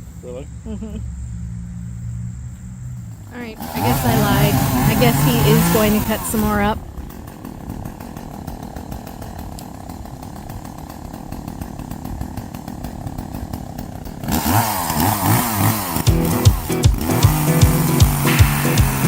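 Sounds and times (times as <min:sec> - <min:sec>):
chainsaw revving: 0:03.1 - 0:19.0.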